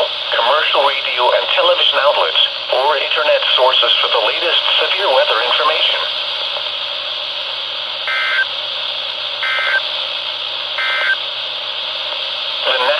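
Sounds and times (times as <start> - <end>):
radio hiss: 0.0 - 12.9.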